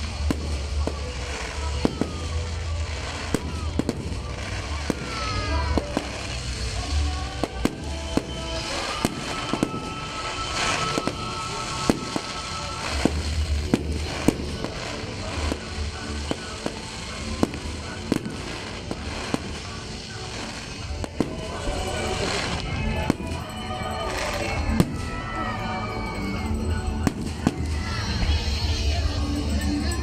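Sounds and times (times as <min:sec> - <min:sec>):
fireworks bursting: 0:00.0 - 0:30.0
fireworks whistling: 0:00.0 - 0:30.0
music: 0:00.0 - 0:30.0.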